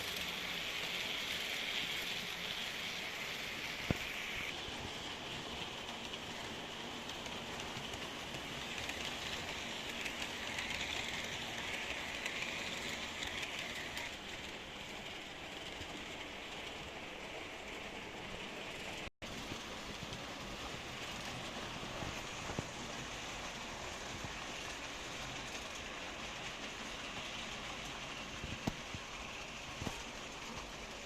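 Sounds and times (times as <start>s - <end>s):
model trains rattling on track: 0.0s - 31.0s.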